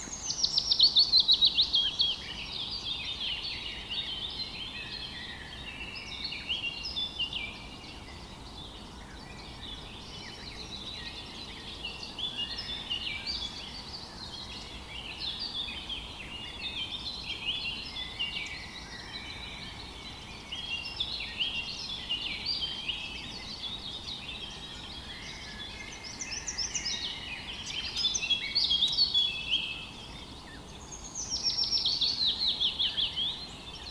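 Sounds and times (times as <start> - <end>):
birds singing: 0.0 - 33.9.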